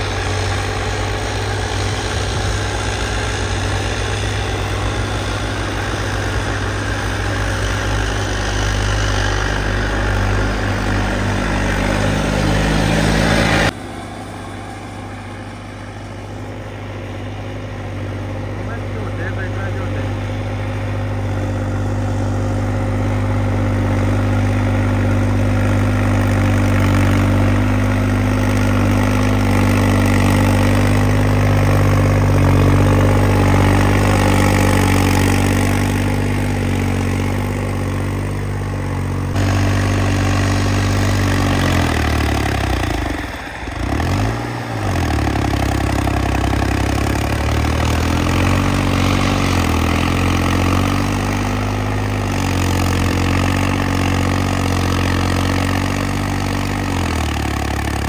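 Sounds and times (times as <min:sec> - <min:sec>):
tractor diesel engines under load: 0:00.0 - 0:58.0.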